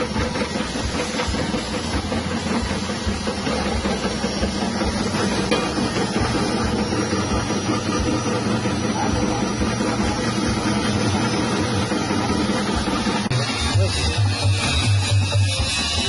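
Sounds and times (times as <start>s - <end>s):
motor humming: 0.0s - 16.0s
spinning cutter whirring: 0.0s - 16.0s.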